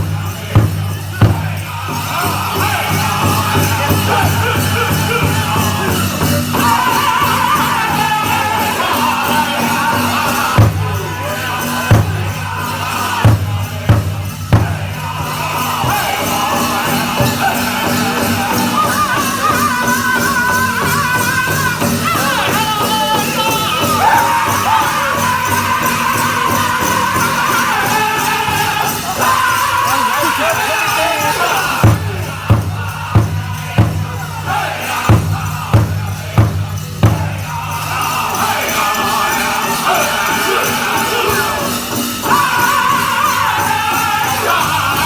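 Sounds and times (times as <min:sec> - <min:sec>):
big drum beat: 0:00.0 - 0:45.0
drum group singing: 0:00.0 - 0:45.0
jingling dancers' bells: 0:00.0 - 0:45.0.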